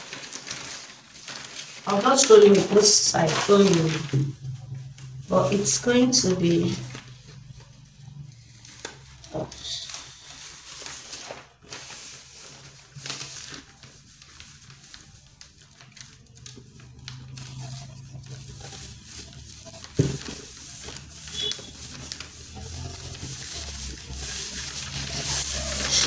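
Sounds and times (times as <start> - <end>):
paper rustling and crinkling: 0.0 - 26.0.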